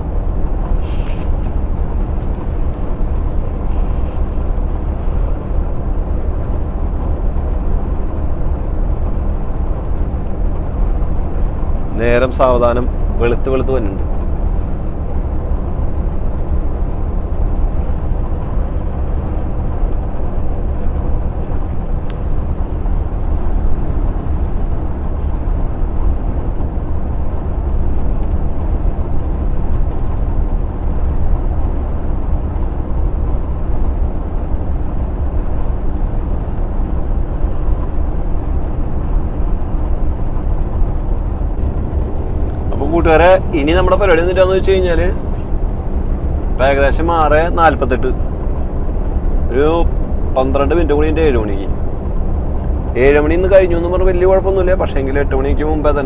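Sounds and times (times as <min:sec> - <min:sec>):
lorry engine and tyres drone: 0:00.0 - 0:56.0.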